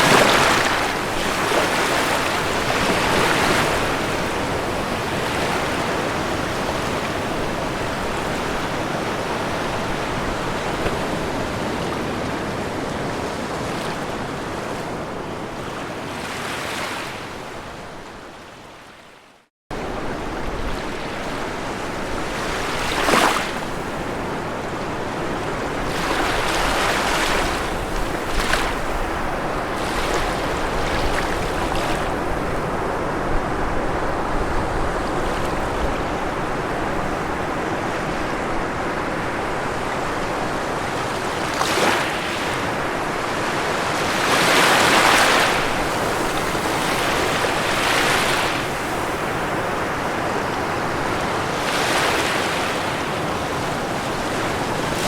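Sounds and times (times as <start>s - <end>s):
ocean surf on shore: 0.0s - 55.0s.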